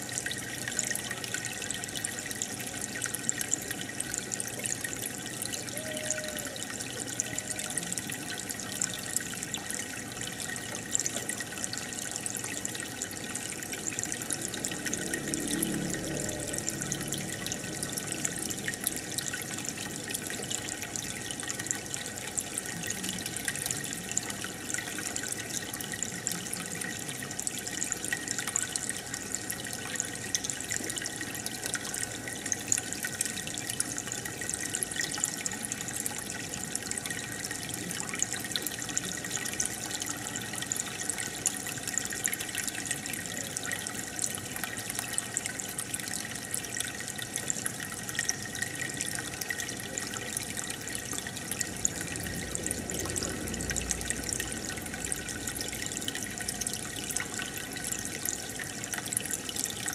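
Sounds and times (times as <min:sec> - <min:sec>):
aquarium air bubbles: 0:00.0 - 0:59.9.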